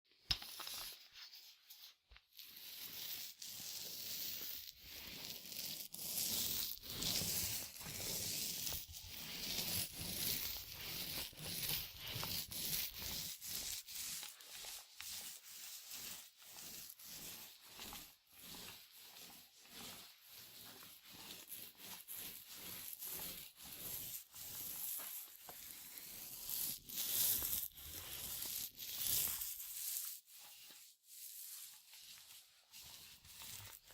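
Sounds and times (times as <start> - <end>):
paint roller rubbing on surface: 0.4 - 33.9.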